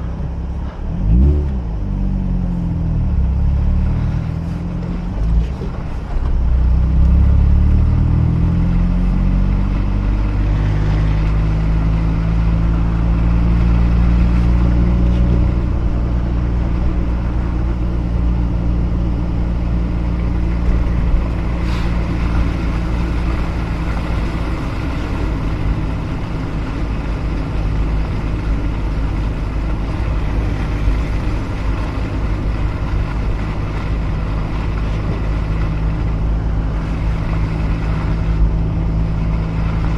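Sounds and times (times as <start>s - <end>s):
rotary engine accelerating: 0.0s - 39.9s.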